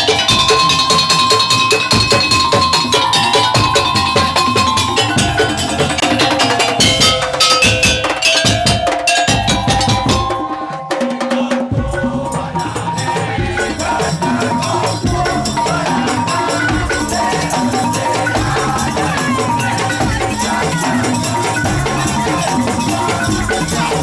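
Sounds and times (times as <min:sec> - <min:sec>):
drums and wooden percussion: 0:00.0 - 0:24.0
pitched melodic instruments: 0:00.0 - 0:24.0.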